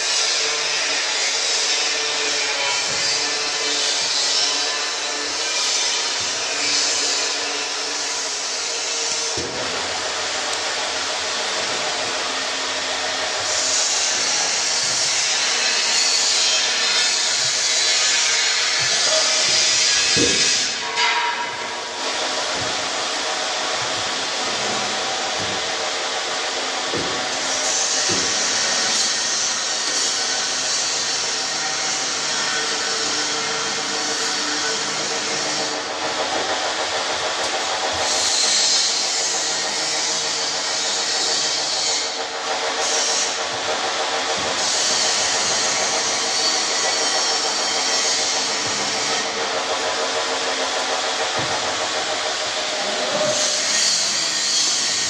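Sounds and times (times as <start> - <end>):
machinery hum: 0.9 - 55.0.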